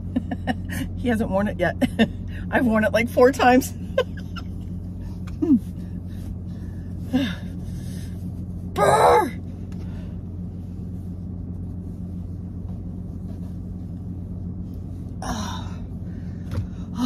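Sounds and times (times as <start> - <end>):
vehicle cab hum: 0.0 - 17.0.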